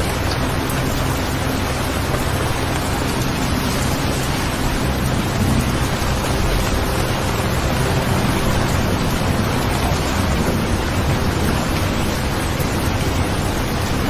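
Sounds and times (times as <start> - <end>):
low rumble: 0.0 - 14.0
steady rain falling: 0.0 - 14.0.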